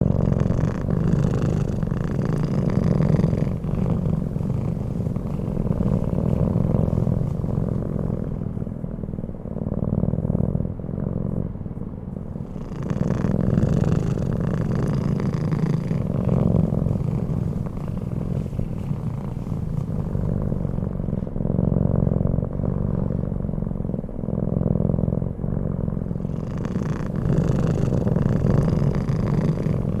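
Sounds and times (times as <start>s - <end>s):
cat snoring: 0.0s - 11.6s, 12.3s - 30.0s.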